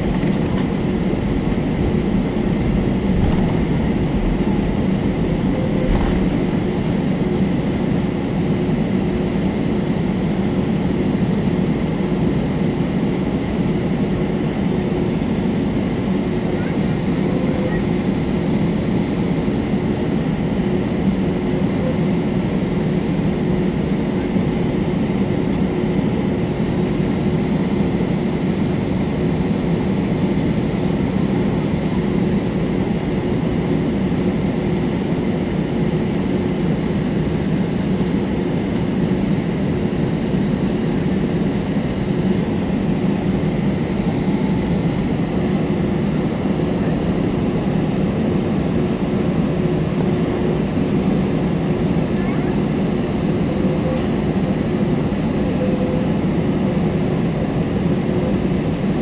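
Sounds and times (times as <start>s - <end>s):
jet engine and airflow hum: 0.0s - 59.0s.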